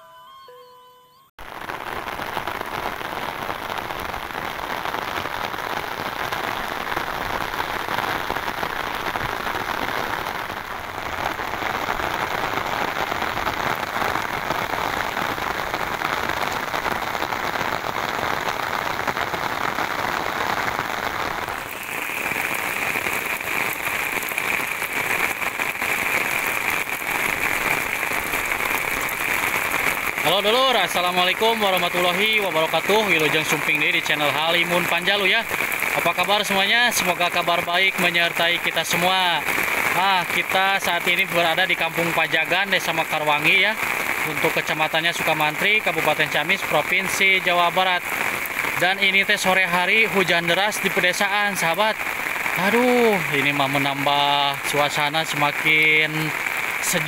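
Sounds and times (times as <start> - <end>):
heavy rain pouring: 1.4 - 57.0.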